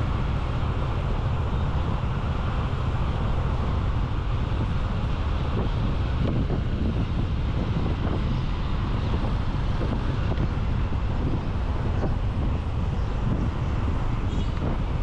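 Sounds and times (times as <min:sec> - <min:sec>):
road noise: 0:00.0 - 0:15.0
wind rumbling on microphone: 0:00.0 - 0:15.0.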